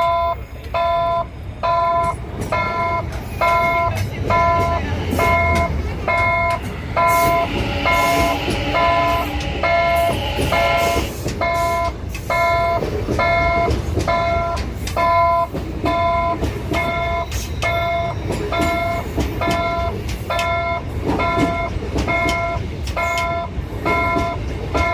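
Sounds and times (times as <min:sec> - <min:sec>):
level crossing warning chime: 0:00.0 - 0:24.9
train rumbling: 0:00.0 - 0:24.9.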